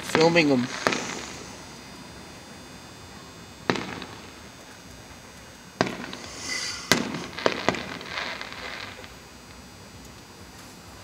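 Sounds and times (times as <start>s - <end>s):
fireworks banging: 0.0s - 10.6s
fireworks crackling hiss: 0.0s - 11.0s.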